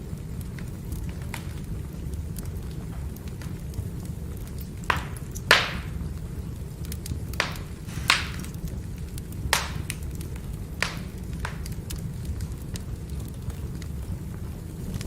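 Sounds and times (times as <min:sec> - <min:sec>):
firewood burning and crackling: 0:00.0 - 0:15.0.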